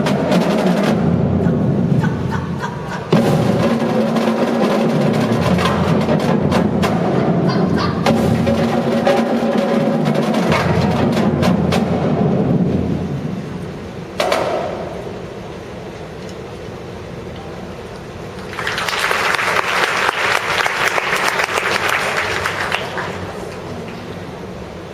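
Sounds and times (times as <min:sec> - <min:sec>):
marching drumline playing: 0:00.0 - 0:15.4, 0:18.6 - 0:23.9.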